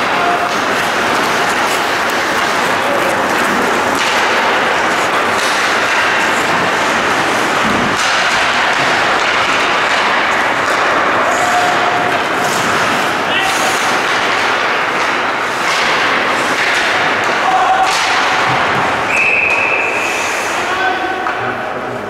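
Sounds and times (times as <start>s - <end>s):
ice hockey rink noise: 0.0s - 22.0s.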